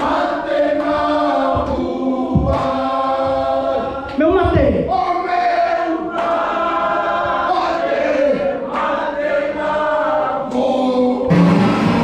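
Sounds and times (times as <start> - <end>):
choir singing: 0.0 - 4.2, 4.9 - 12.0.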